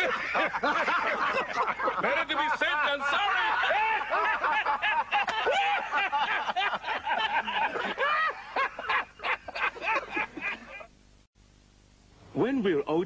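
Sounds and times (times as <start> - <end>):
high-pitched laughter: 0.0 - 10.9.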